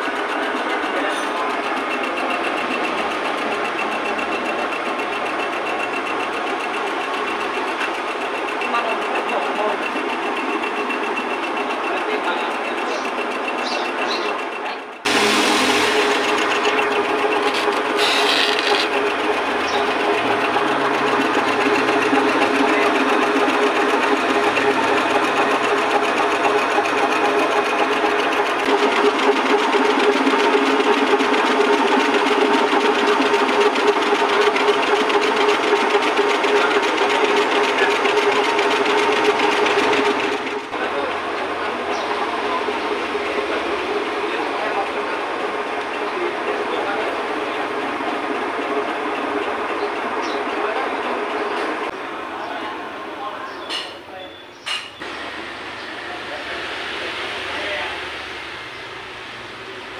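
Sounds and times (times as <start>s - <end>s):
drive motor hum: 0.0s - 53.0s
lathe whirring: 0.0s - 53.4s, 55.0s - 59.9s.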